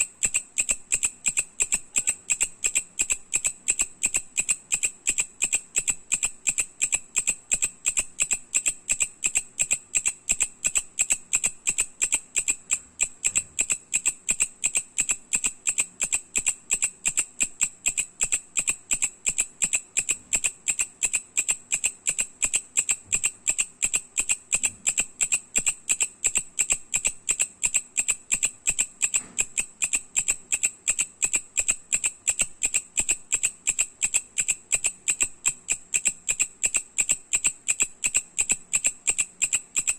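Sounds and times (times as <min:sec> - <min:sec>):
katydid ticking song: 0:00.0 - 0:39.9.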